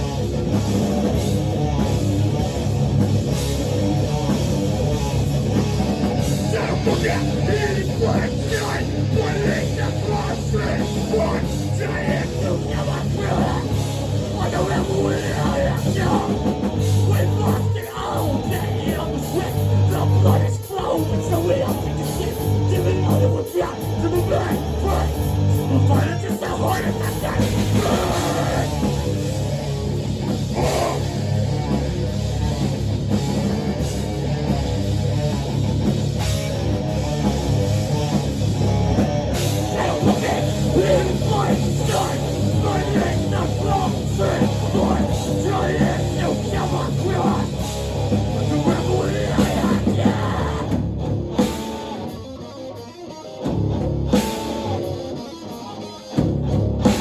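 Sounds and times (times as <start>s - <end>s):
low bass line: 0.0s - 17.7s, 21.1s - 26.2s, 26.8s - 51.5s
rock band playing: 0.0s - 57.0s.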